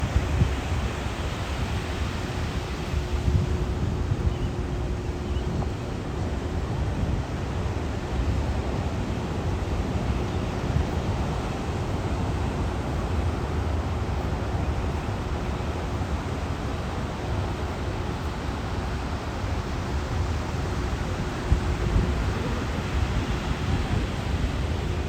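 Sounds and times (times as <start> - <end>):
ocean surf: 0.0 - 25.0
wind on microphone: 0.0 - 25.0.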